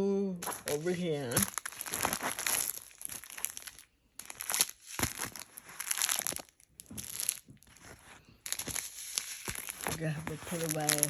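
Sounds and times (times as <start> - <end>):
plastic packaging crinkling: 0.4 - 11.0.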